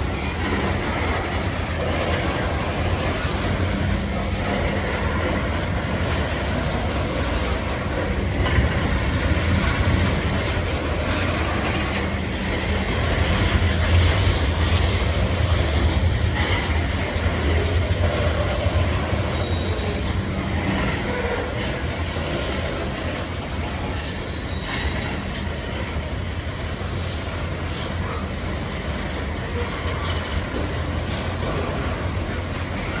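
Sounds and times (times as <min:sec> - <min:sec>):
train wheel clacks: 0:00.0 - 0:33.0
train wheels rumbling on rail: 0:00.0 - 0:33.0.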